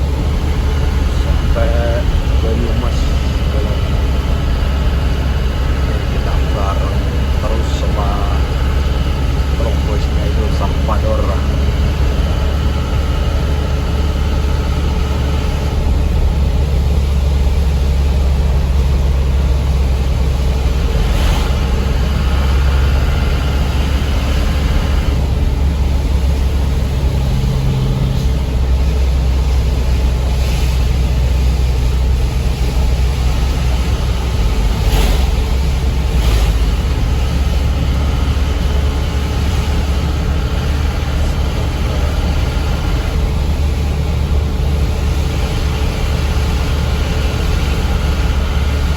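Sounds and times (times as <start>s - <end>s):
diesel truck engine droning: 0.0s - 48.9s.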